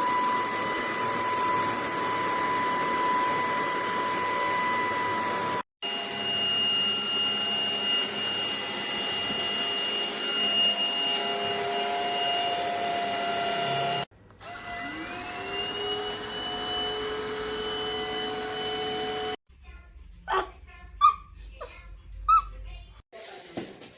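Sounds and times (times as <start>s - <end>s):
vacuum cleaner motor whine: 0.0s - 19.4s.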